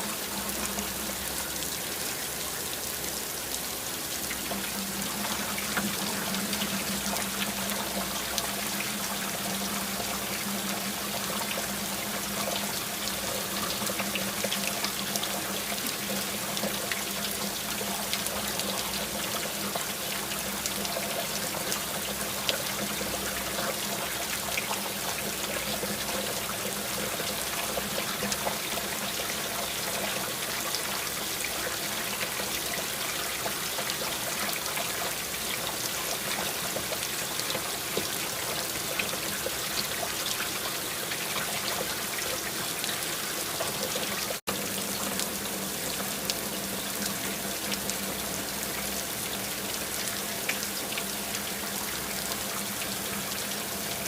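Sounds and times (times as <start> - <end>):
steady rain: 0.0 - 54.0
water trickling and pouring: 0.0 - 54.0.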